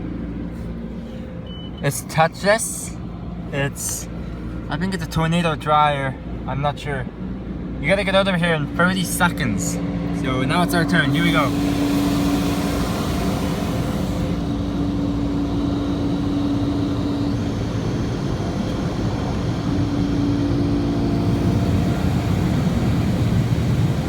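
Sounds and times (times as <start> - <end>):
car wash machinery drone: 0.0 - 24.0.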